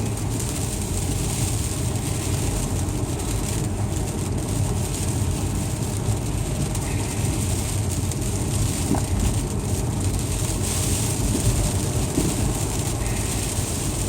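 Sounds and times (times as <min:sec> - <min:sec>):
car road noise and engine hum: 0:00.0 - 0:14.0.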